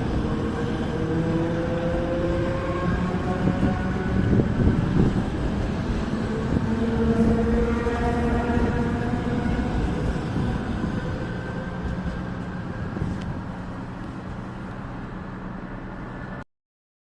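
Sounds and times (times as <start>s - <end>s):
train rumbling past: 0.0s - 16.4s.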